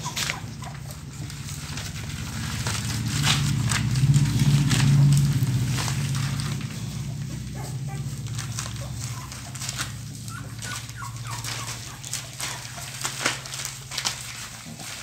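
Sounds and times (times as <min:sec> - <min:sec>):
puppies squeaking and whimpering: 0:00.0 - 0:04.8, 0:05.4 - 0:15.0
steady low hum: 0:00.0 - 0:15.0.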